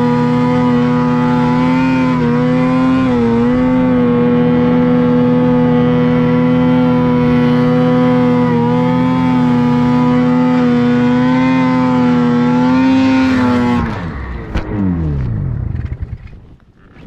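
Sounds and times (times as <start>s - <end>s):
snowmobile engine revving: 0.0s - 16.3s.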